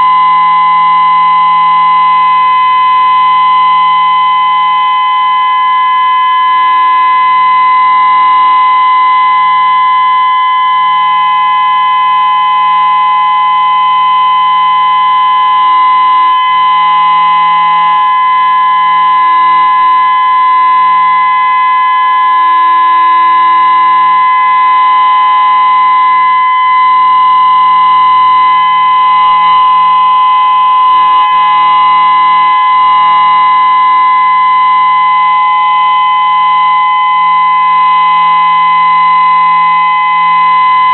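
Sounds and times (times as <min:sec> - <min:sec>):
siren steady test tone: 0:00.0 - 0:40.9.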